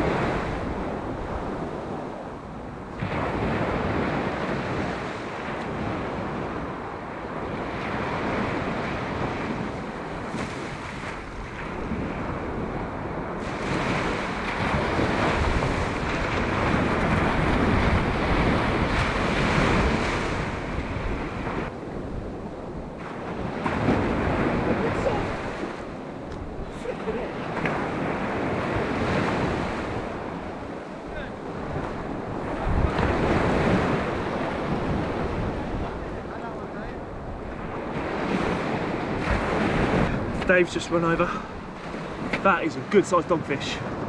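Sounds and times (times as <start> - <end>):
sea waves breaking on beach: 0.0 - 44.0
wind buffeting microphone: 0.0 - 44.0.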